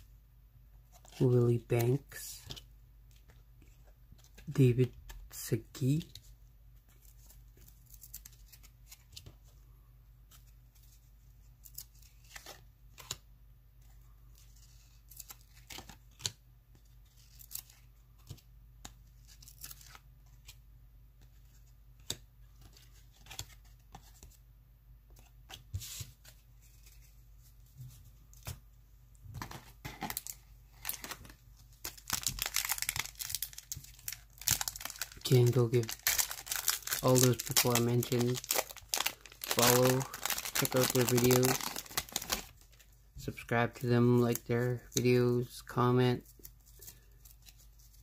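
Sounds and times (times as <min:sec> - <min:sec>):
cards being handled and flipped: 0:00.8 - 0:09.6, 0:10.2 - 0:24.4, 0:25.1 - 0:28.7, 0:29.3 - 0:45.1, 0:45.7 - 0:48.0.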